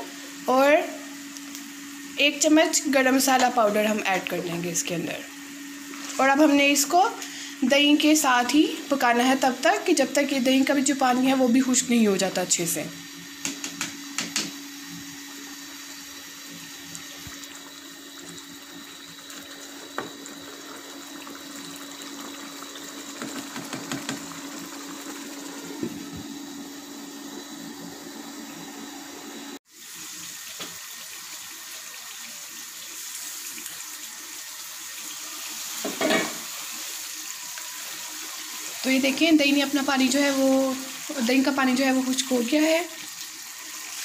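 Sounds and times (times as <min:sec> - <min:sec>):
meat sizzling in oil: 0:00.0 - 0:27.6, 0:29.7 - 0:44.0.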